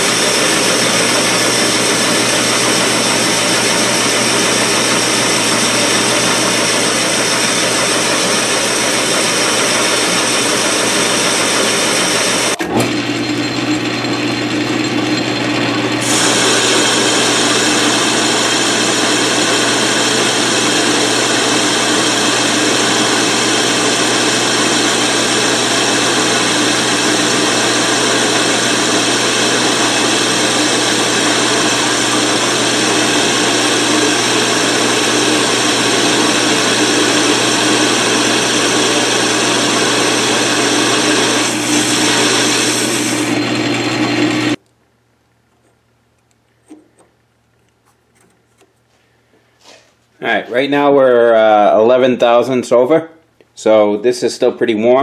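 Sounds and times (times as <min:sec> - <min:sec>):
metal lathe running: 0:00.0 - 0:44.6.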